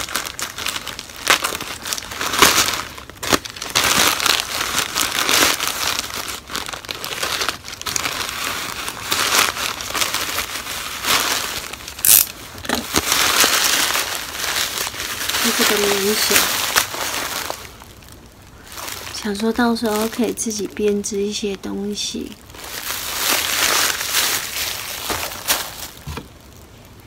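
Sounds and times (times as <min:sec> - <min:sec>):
plastic mailer bag crinkling: 0:00.0 - 0:26.6.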